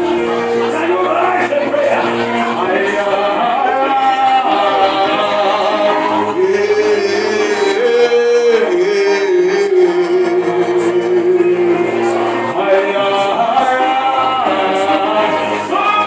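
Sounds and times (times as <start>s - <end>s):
musical backing: 0.0s - 16.0s
person singing long gliding notes: 2.3s - 16.0s.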